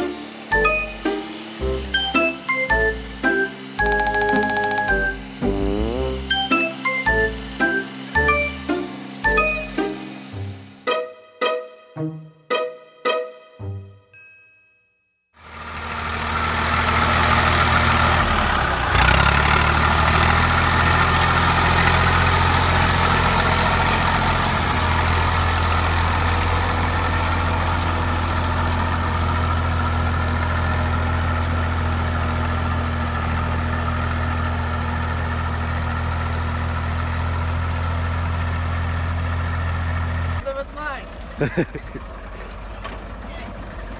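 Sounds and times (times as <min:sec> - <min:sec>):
tractor diesel engine running: 0:00.0 - 0:11.0, 0:15.4 - 0:43.9.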